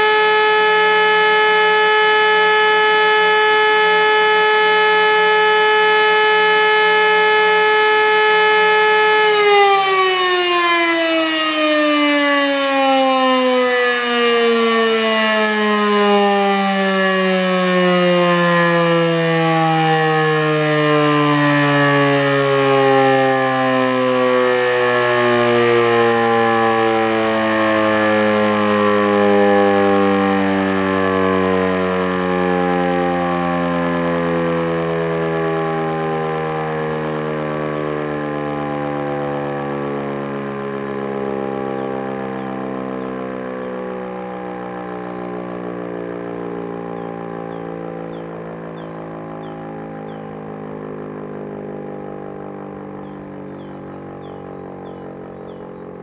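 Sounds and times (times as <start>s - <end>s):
electric motor siren: 0.0s - 56.0s.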